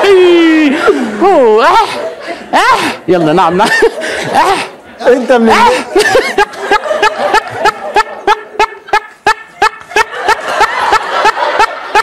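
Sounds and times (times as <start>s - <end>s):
man laughing: 0.6s - 4.8s, 5.5s - 12.0s.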